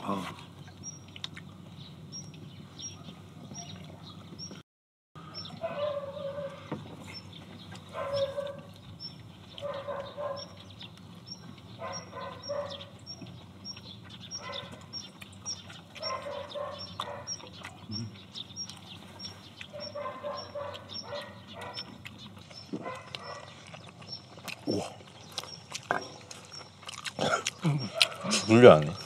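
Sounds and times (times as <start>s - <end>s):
people chewing: 0.0s - 4.6s, 5.2s - 29.0s.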